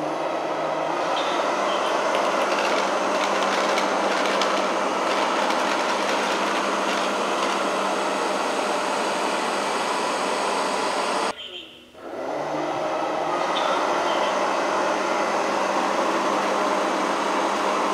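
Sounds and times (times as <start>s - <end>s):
robot vacuum whirring: 0.0s - 11.3s, 12.0s - 17.9s.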